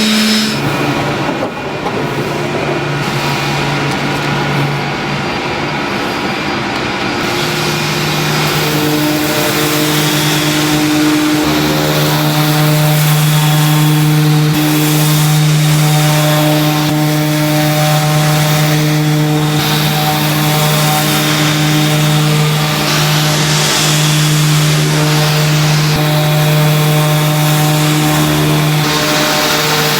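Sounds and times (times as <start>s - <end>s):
constant machine hiss: 0.0s - 29.9s
high steady machine tones: 0.0s - 29.9s
machinery motor hum: 0.0s - 29.9s.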